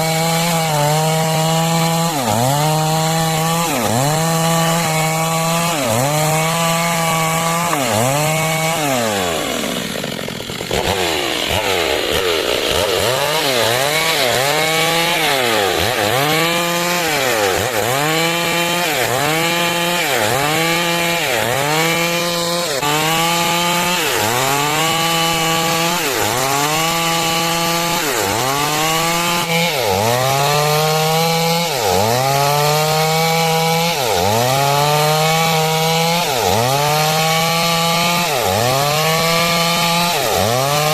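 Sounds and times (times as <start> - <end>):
chainsaw ripping wood: 0.0 - 40.9.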